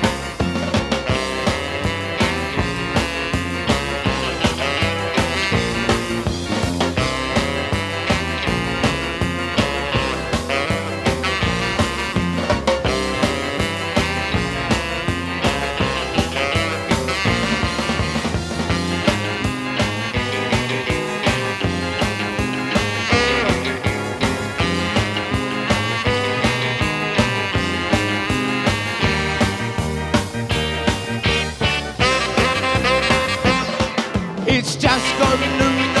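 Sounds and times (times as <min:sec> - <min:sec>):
ska band instrumental: 0:00.0 - 0:36.0.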